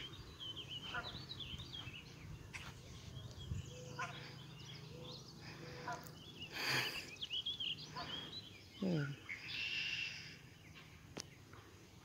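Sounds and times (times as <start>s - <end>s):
birds twittering: 0.0s - 12.0s.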